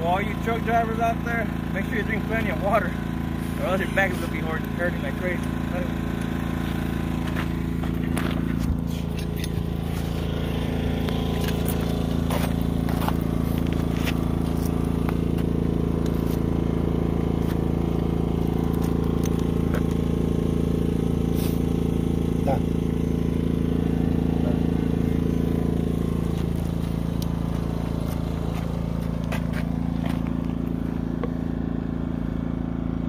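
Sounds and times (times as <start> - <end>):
generator engine humming: 0.0 - 33.0.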